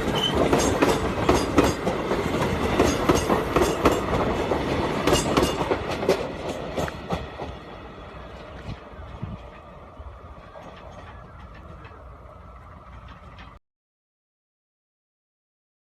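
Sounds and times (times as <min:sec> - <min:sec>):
train wheels clattering on track: 0:00.0 - 0:13.6.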